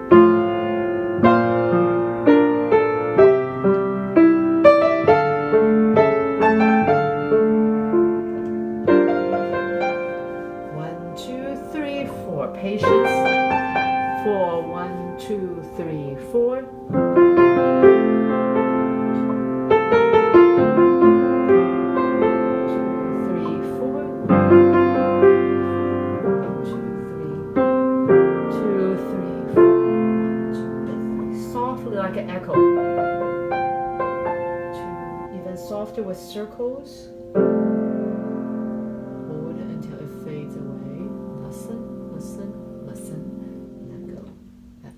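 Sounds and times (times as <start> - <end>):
piano playing slow legato: 0.0 - 44.9.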